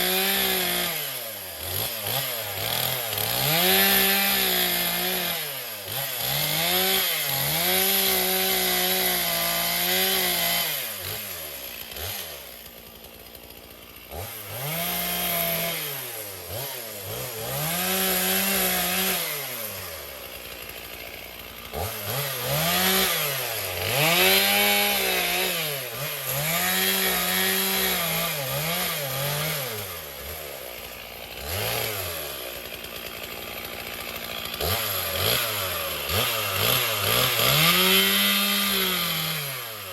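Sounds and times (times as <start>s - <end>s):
chainsaw cutting a branch: 0.0s - 39.9s.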